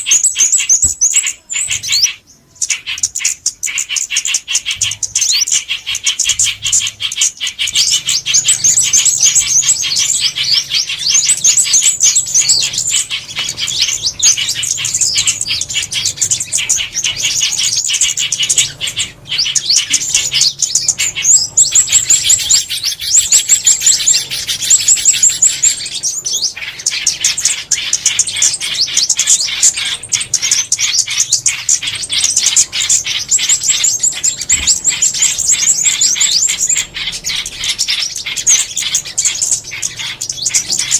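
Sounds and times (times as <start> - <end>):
small songbirds twittering: 0.0 - 40.9.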